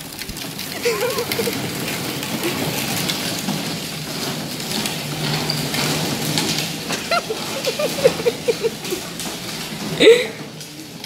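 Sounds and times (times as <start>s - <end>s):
plastic wheels rolling on concrete: 0.0s - 11.0s.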